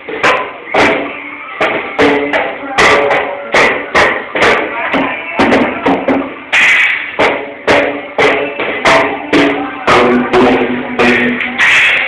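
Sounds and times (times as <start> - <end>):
child banging on drum kit: 0.2 - 12.0.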